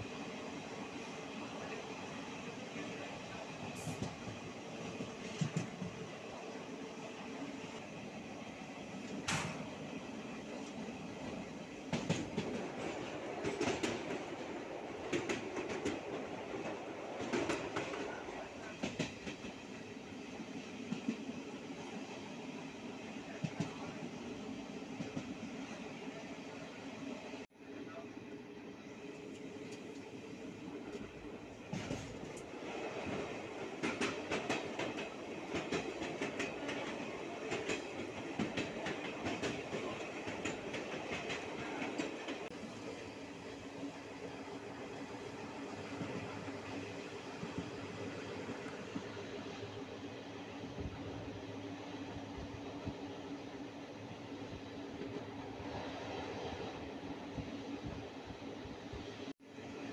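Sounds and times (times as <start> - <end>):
train rumble: 0.0 - 59.9.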